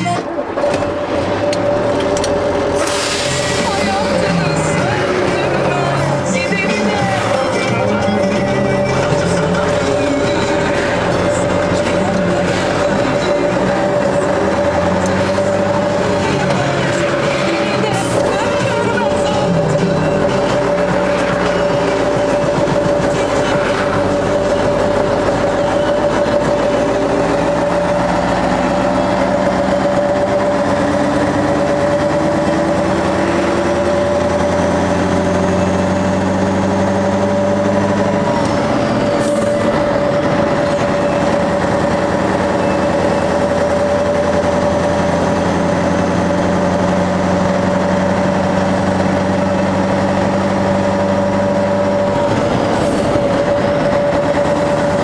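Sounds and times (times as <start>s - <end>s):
truck diesel engine accelerating: 0.0s - 55.0s.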